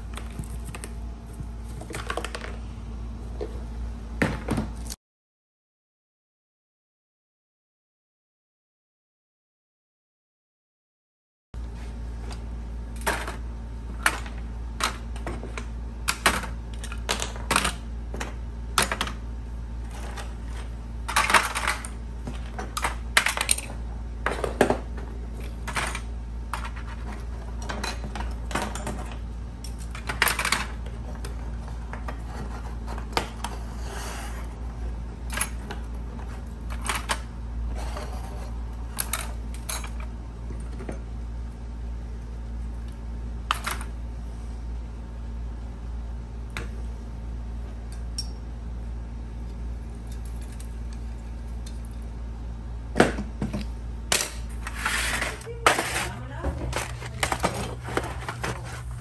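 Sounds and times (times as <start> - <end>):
steady low hum: 0.0 - 5.0, 11.6 - 59.0.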